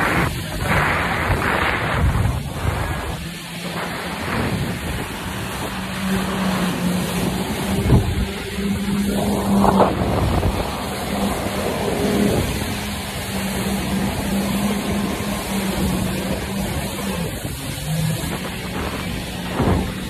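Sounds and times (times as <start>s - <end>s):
jet ski engine running: 0.0s - 20.0s
water spray rushing: 0.0s - 20.0s.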